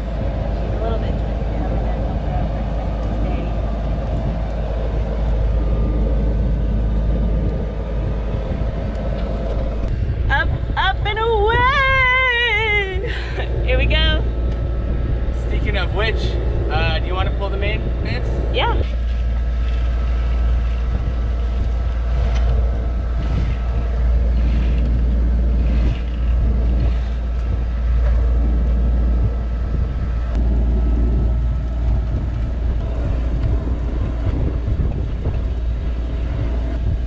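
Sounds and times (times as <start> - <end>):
boat engine droning: 0.0 - 37.0
wind buffeting microphone: 0.0 - 37.0.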